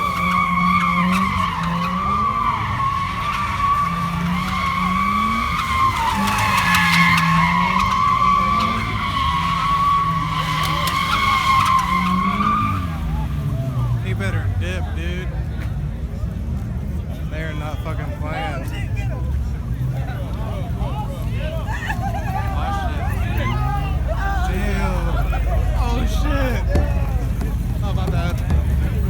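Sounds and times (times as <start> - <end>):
tyres squealing: 0.0 - 15.5, 17.1 - 29.0
car engine revving: 0.0 - 29.0.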